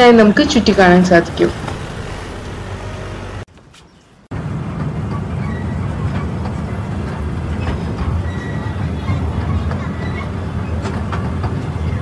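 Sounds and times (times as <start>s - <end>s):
small train running: 0.0s - 12.0s.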